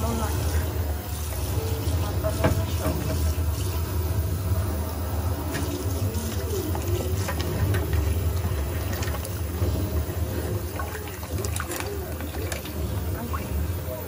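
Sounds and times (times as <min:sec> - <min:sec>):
tap water running into basin: 0:00.0 - 0:14.0.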